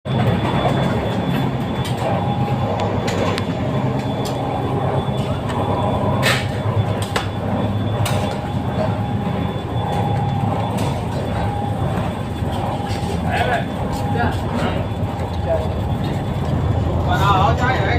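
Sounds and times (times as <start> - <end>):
train wheels rumbling: 0.1 - 17.9.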